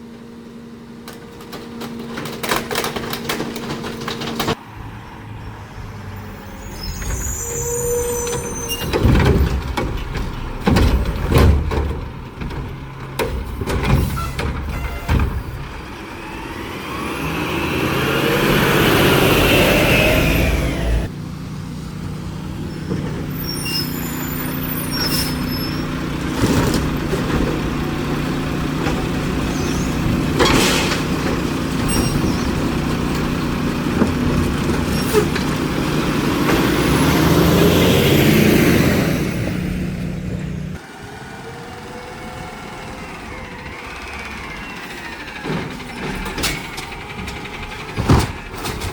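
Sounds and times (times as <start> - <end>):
garbage truck engine revving: 5.8 - 48.9.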